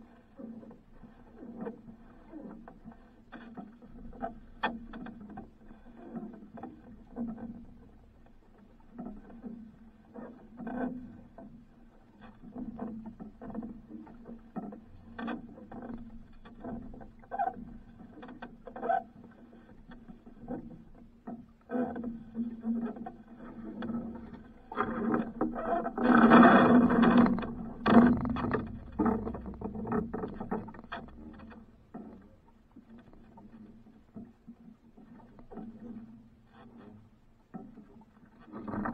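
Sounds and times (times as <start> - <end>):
water sloshing against boat hull: 0.0 - 38.9
wooden boat knocks and creaks: 1.6 - 38.9.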